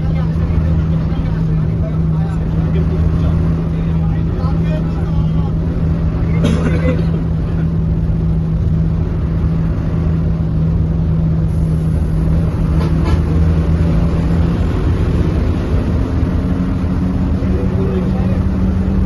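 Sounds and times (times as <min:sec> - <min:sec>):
bus engine droning: 0:00.0 - 0:19.0
road noise: 0:00.0 - 0:19.0.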